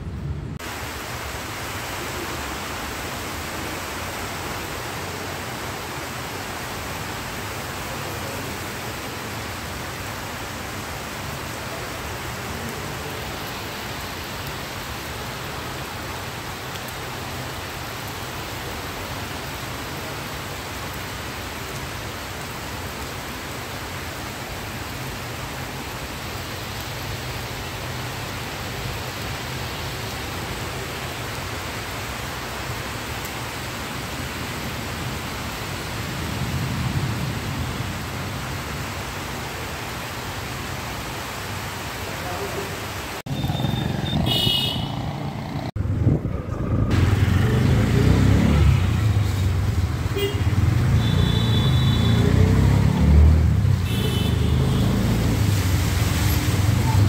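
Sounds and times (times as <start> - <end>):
heavy rain on paving: 0.0 - 57.0.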